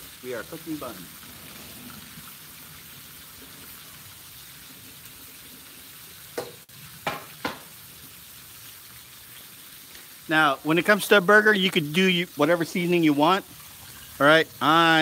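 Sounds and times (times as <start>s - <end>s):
bacon and burgers sizzling on griddle: 0.0s - 15.0s.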